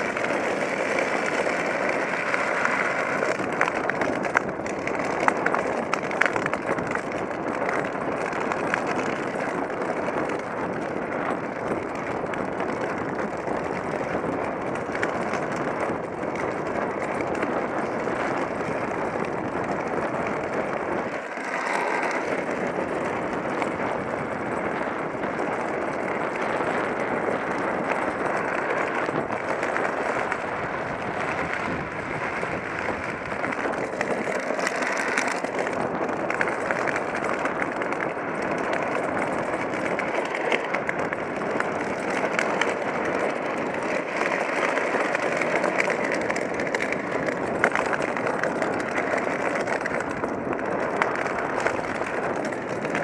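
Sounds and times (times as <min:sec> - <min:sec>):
wheels rolling on asphalt: 0:00.0 - 0:53.0
wind: 0:00.0 - 0:53.0.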